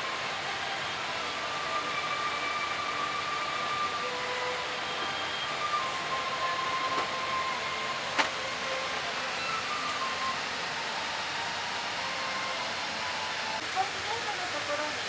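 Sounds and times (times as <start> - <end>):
air-conditioning hiss: 0.0 - 15.0.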